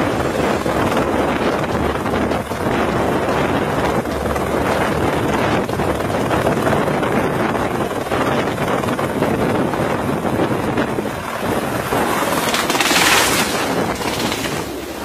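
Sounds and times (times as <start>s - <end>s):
helicopter turbine and rotor: 0.0s - 15.0s
wind buffeting microphone: 0.0s - 15.0s.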